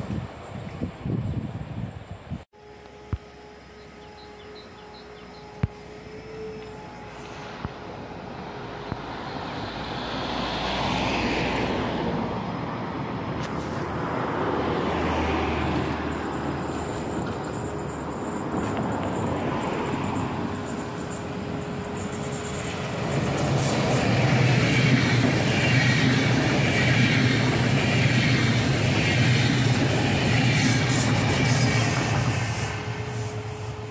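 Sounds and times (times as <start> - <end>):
passenger train wheels on rails: 0.0 - 33.9.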